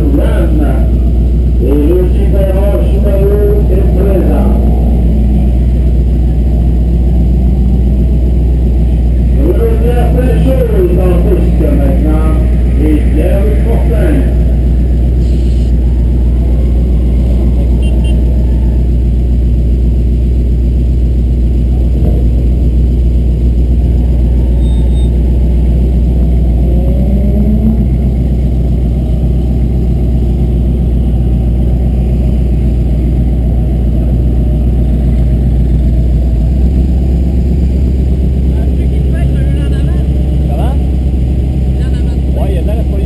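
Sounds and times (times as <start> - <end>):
vehicle engines idling: 0.0 - 43.0.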